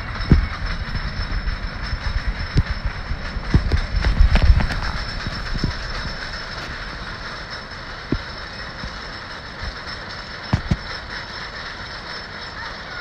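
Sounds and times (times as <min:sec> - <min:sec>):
roller coaster chain lift rattle: 0:00.0 - 0:13.0.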